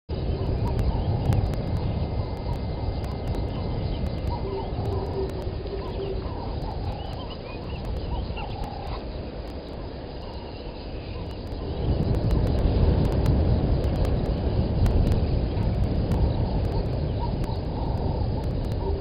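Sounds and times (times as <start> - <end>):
birds chirping: 0.1 - 19.0
low rumble: 0.1 - 19.0.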